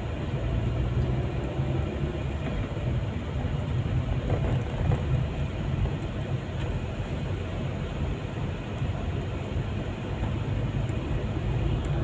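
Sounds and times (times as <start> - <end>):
car driving inside cabin: 0.0 - 12.0.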